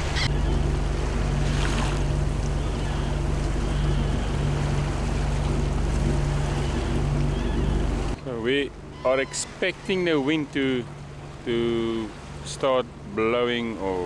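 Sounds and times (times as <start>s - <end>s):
low steady hum: 0.0s - 14.0s
water rushing: 0.0s - 14.0s
wind: 0.0s - 14.0s.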